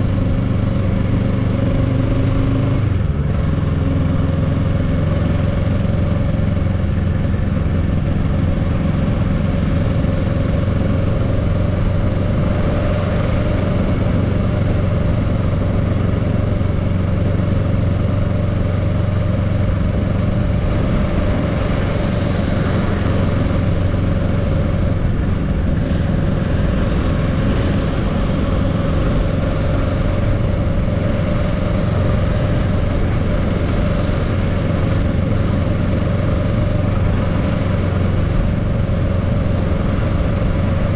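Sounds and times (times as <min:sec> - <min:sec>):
motorcycle engine running: 0:00.0 - 0:40.9
road noise: 0:00.0 - 0:40.9.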